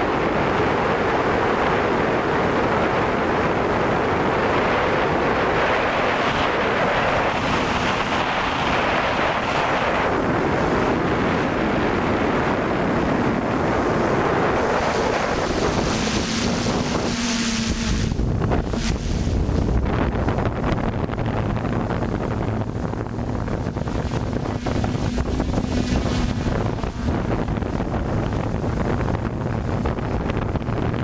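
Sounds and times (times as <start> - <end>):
airflow buffeting microphone: 0.0 - 31.0
drone propeller rushing: 4.3 - 31.0.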